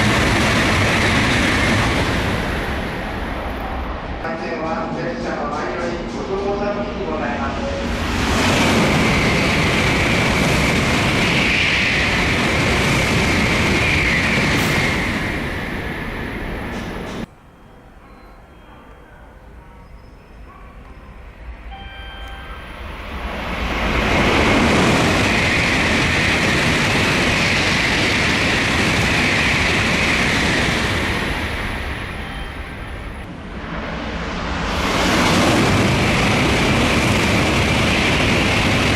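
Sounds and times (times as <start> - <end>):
train passing at high speed: 0.0 - 38.9.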